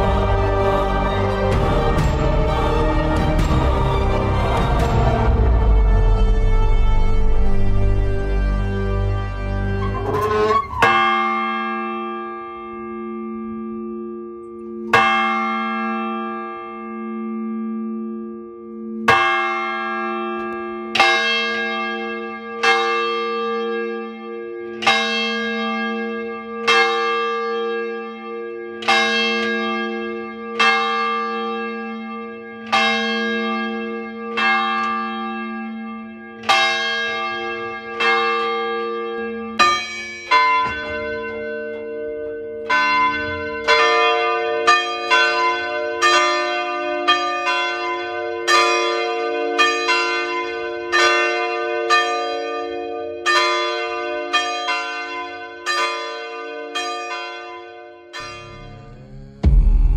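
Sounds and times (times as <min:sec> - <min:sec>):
church bells tolling: 0:00.0 - 0:59.9.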